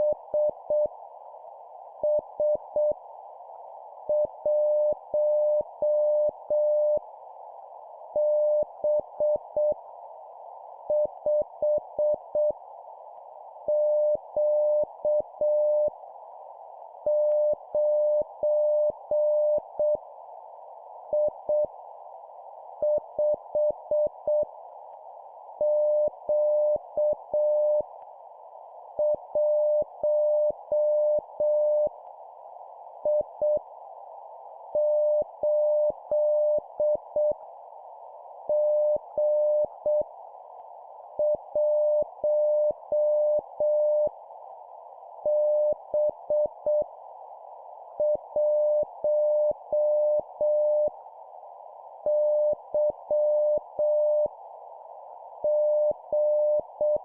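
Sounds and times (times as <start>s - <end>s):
receiver hiss: 0.0s - 57.0s.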